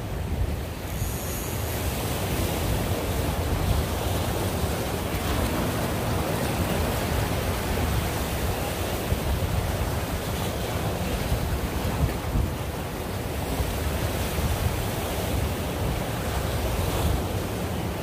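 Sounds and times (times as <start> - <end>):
ocean surf against rocks: 0.0 - 18.0
wind rumbling on microphone: 0.0 - 18.0.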